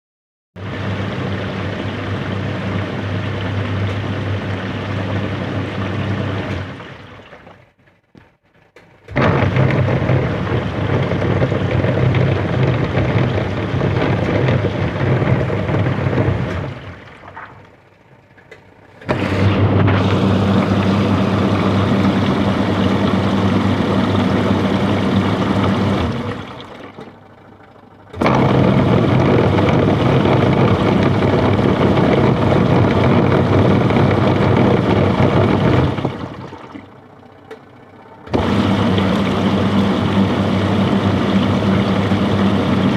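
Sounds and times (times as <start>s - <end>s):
washing machine grinding hum: 0.6s - 42.9s.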